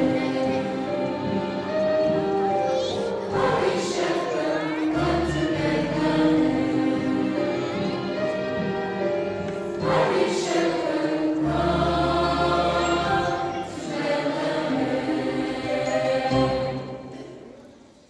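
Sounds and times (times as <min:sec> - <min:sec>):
choir singing a carol: 0:00.0 - 0:17.6.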